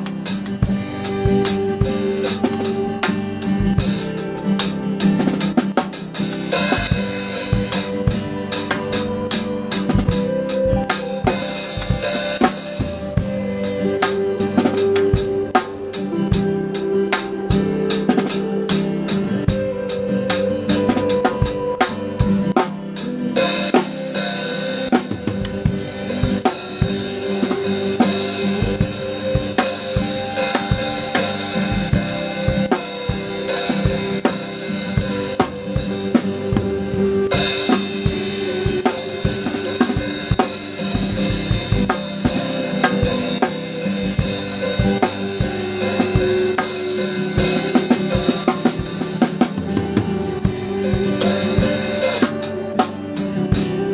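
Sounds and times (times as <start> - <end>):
drum kit playing: 0.0 - 53.9
sustained instrumental backing: 0.0 - 53.9.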